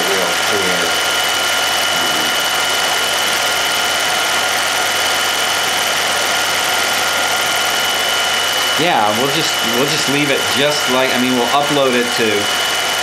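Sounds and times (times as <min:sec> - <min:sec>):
film projector whirring: 0:00.0 - 0:13.0
high whine: 0:00.0 - 0:13.0.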